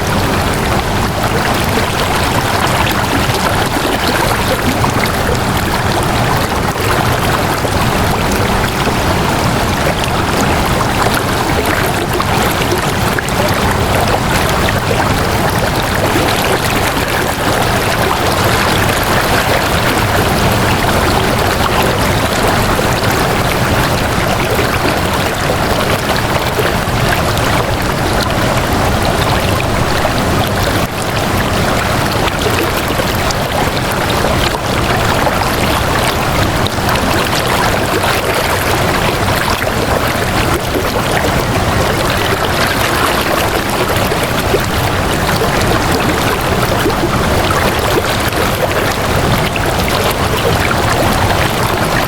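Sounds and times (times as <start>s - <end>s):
flowing water rushing: 0.0s - 52.0s.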